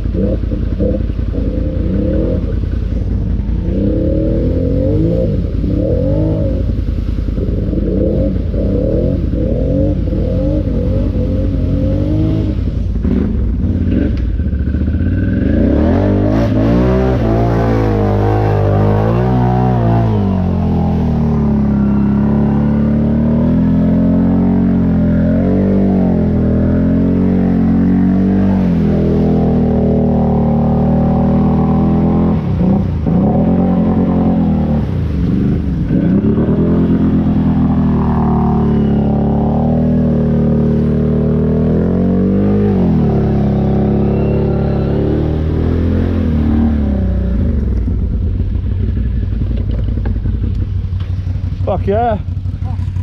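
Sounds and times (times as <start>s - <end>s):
quad bike engine revving: 0.0s - 53.0s.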